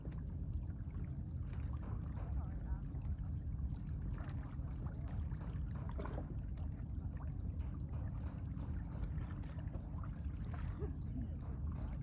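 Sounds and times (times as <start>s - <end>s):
small splashes and ticks: 0.0s - 12.0s.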